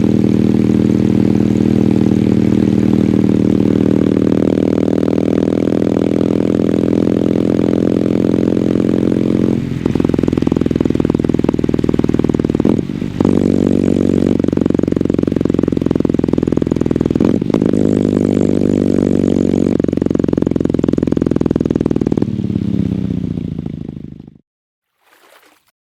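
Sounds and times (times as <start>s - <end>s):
motorcycle engine running: 0.0s - 24.4s.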